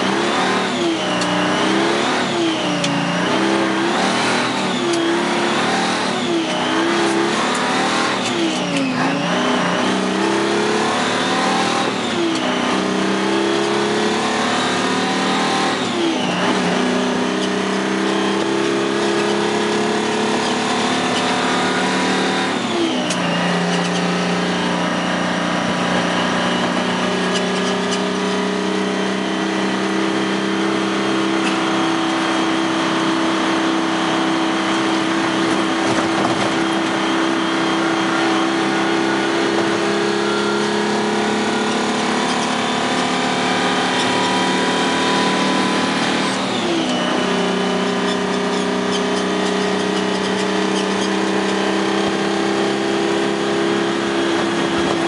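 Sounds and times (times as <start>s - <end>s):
diesel truck engine under load: 0.0s - 55.0s.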